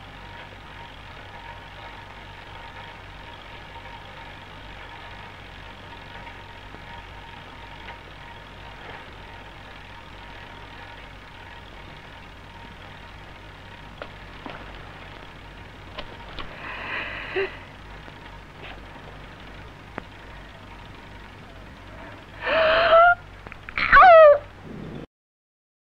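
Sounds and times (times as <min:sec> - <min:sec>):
film soundtrack hiss and hum: 0:00.0 - 0:25.1
faint clicks and knocks: 0:00.3 - 0:16.6, 0:17.9 - 0:22.3, 0:23.4 - 0:23.8.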